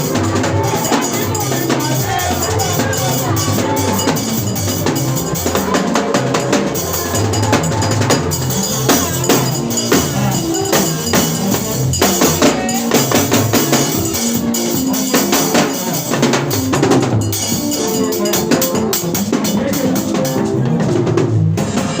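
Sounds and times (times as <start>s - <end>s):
music with drums and percussion: 0.0s - 22.0s.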